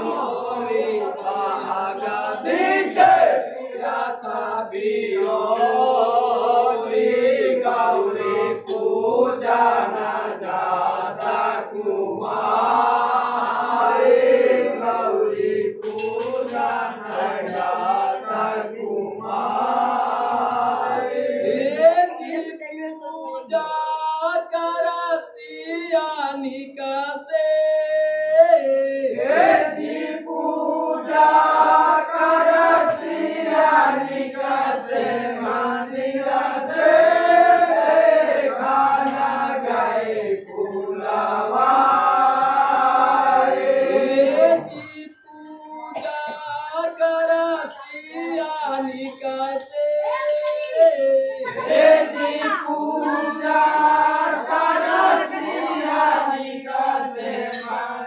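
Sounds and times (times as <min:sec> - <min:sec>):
men singing a folk song: 0:00.0 - 0:22.5, 0:23.4 - 0:58.0.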